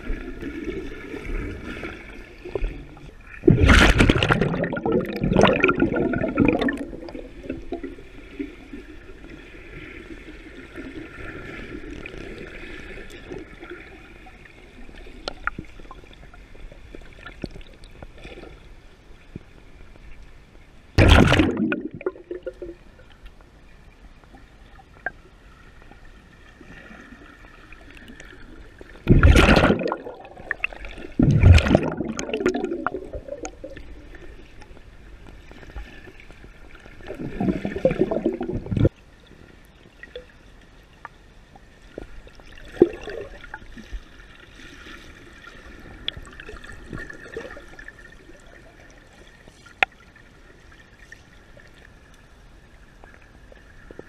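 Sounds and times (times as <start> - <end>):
underwater water rushing and bubbles: 0.0 - 54.0.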